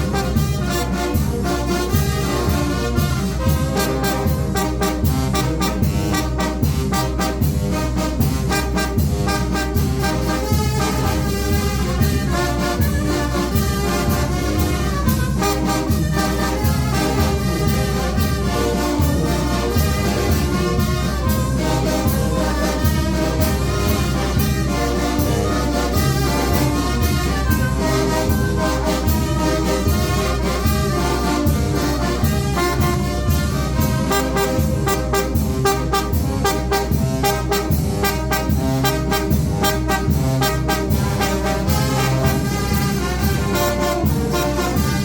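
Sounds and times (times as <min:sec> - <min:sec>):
bass and percussion beat: 0:00.0 - 0:45.0
trumpets and trombones: 0:00.0 - 0:45.0
wind band playing: 0:00.0 - 0:45.0.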